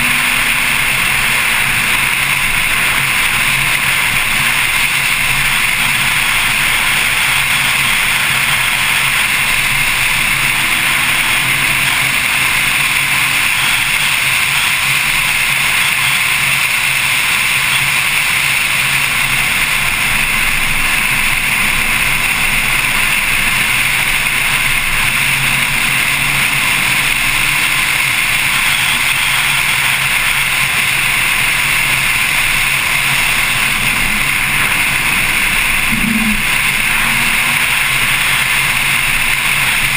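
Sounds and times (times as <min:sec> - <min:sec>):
faint car engine: 0:00.0 - 0:39.9
road noise: 0:00.0 - 0:39.9.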